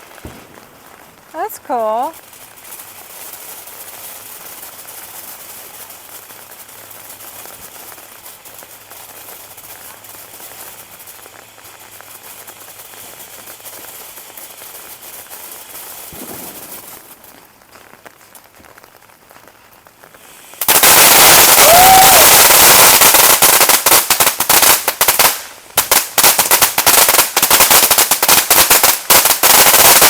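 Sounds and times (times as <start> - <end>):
firework fountain hissing crackle: 0.0 - 30.0.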